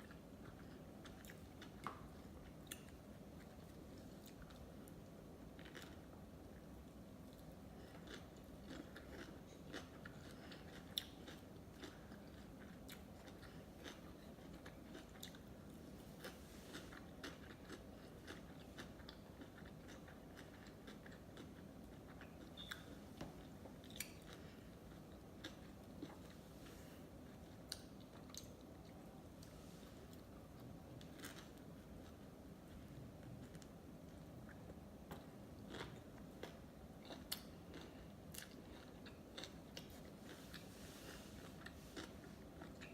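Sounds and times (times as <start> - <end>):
person chewing sushi: 0.0 - 42.9.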